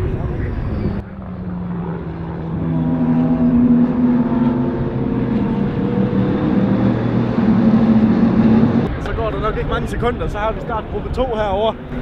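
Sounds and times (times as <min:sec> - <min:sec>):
race cars passing at speed: 0:00.2 - 0:12.0.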